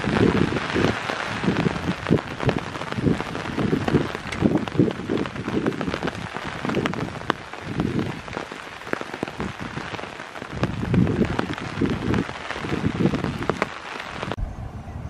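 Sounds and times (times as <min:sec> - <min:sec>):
heavy rain: 0:00.0 - 0:14.4
raindrops ticking: 0:00.0 - 0:14.4.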